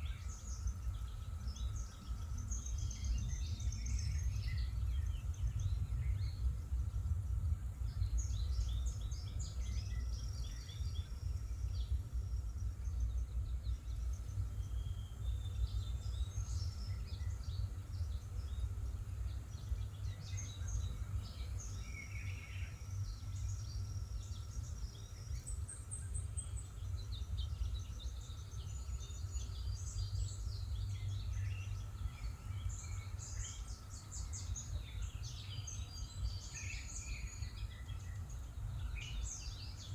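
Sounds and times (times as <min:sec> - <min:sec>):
songbirds chirping: 0:00.0 - 0:39.9
steady low rumble: 0:00.0 - 0:39.9.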